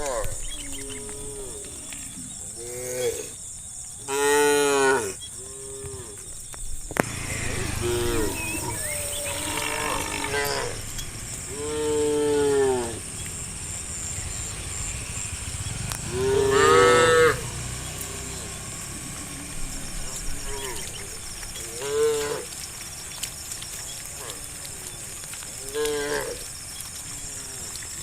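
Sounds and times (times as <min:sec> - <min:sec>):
cows mooing: 0:00.0 - 0:03.4, 0:04.0 - 0:06.3, 0:07.0 - 0:22.7, 0:23.8 - 0:26.5.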